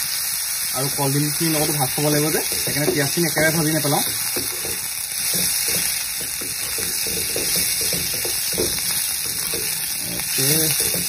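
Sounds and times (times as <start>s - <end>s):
meat and onions sizzling in oil: 0.0s - 11.0s
spatula scraping a pan: 1.5s - 11.0s.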